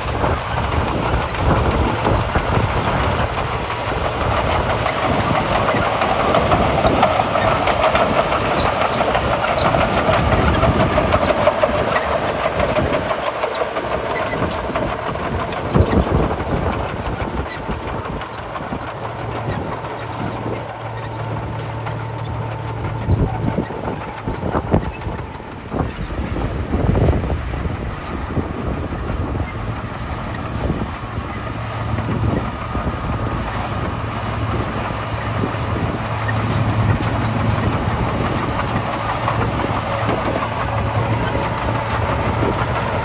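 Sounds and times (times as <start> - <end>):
diesel engine under load: 0.0 - 43.0
steel tracks clanking: 0.0 - 43.0.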